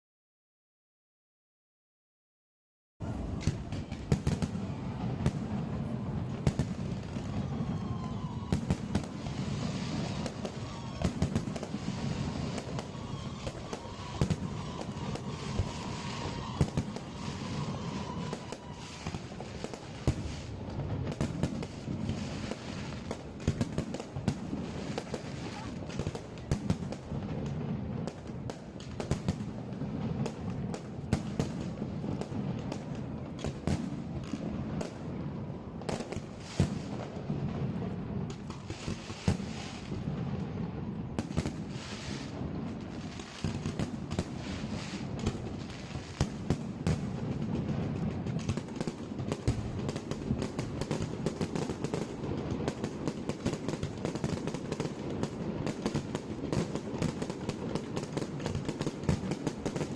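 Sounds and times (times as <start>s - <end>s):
fireworks bangs and pops: 3.0s - 59.9s
fireworks crackling: 3.0s - 59.9s.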